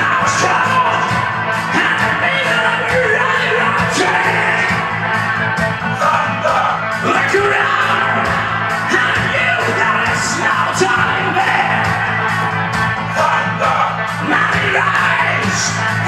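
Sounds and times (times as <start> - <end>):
backing track drum beat: 0.0 - 16.0
man singing karaoke: 0.0 - 16.0.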